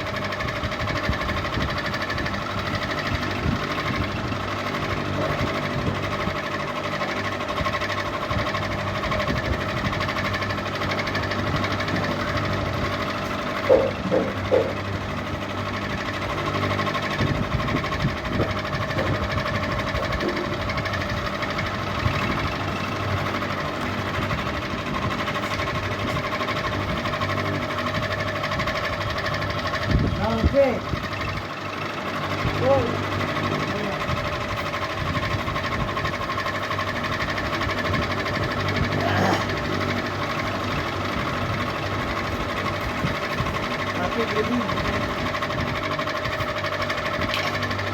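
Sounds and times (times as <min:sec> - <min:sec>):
ceiling fan rattling and humming: 0:00.0 - 0:47.9.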